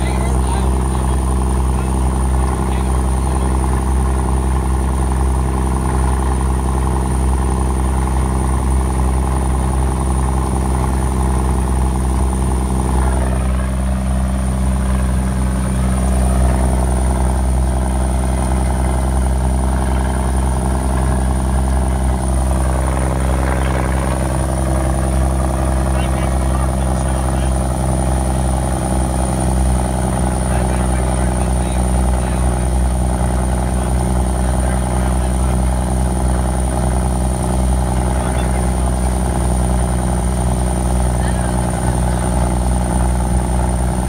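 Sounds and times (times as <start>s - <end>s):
truck diesel engine under load: 0.0s - 44.0s.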